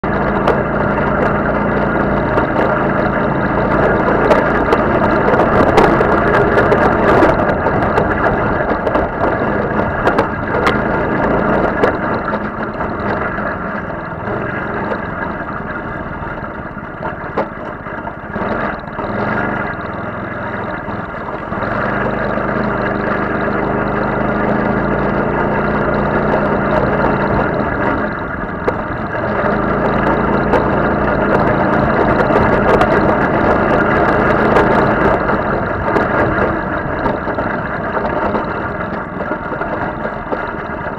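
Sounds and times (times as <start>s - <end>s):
buggy engine running: 0.0s - 40.9s
knocks and rattles from rough ground: 0.0s - 40.9s.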